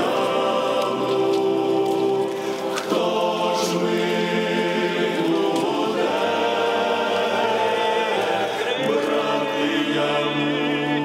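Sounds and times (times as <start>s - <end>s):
choir singing slow song: 0.0s - 11.0s.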